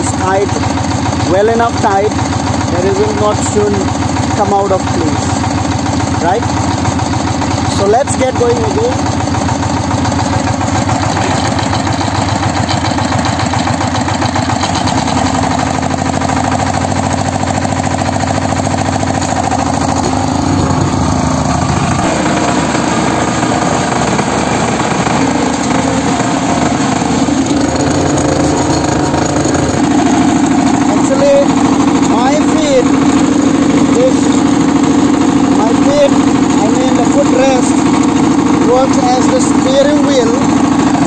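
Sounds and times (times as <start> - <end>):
diesel engine running: 0.0 - 41.0
rotary tines tilling soil: 0.0 - 41.0.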